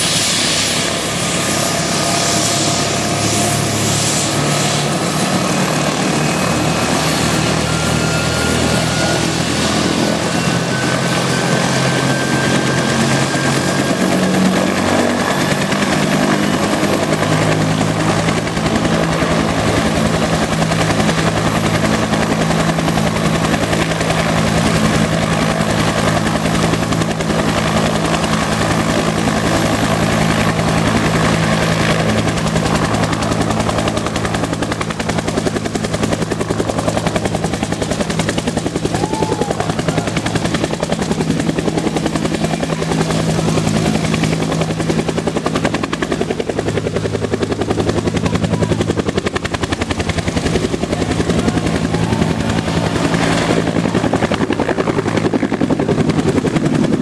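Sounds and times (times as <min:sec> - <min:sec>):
helicopter rotor chopping: 0:00.0 - 0:57.0.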